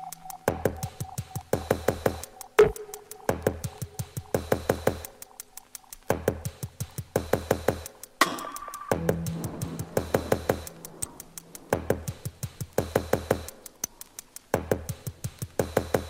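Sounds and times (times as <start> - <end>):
electronic music with clicking beat: 0.0 - 16.0.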